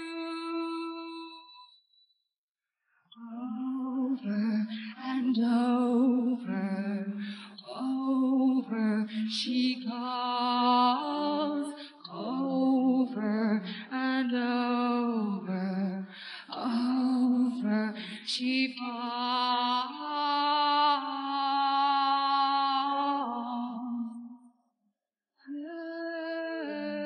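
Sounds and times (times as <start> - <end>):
woman singing: 0.0 - 1.7, 3.1 - 24.4, 25.4 - 27.0.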